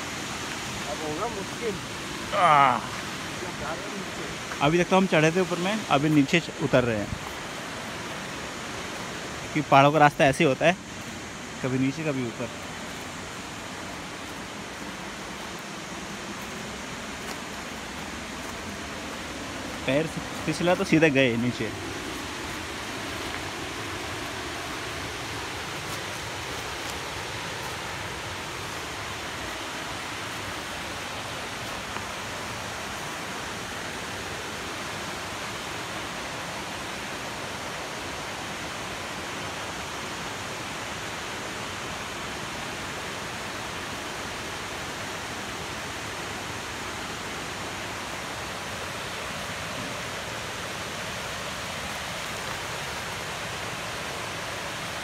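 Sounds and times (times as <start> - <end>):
rushing stream and waterfall: 0.0 - 55.0.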